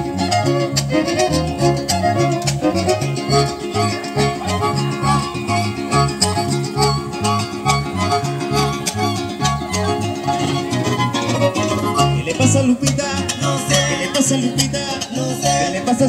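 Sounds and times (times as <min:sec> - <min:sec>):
bass line: 0:00.0 - 0:16.0
fiddle melody: 0:00.0 - 0:16.0
strummed guitar: 0:00.0 - 0:16.0.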